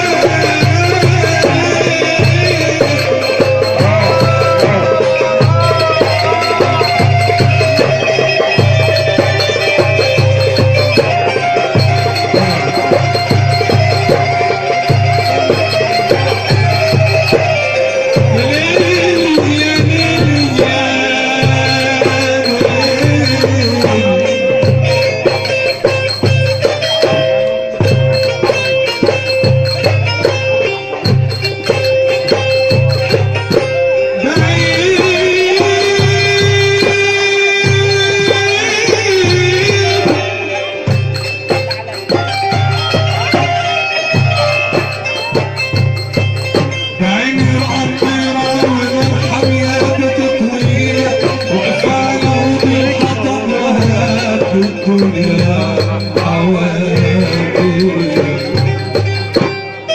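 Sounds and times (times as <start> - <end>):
rhythmic bass beat: 0.0 - 59.6
hand percussion: 0.0 - 59.9
held melody note: 0.0 - 59.9
live band instrumental music: 0.0 - 59.9.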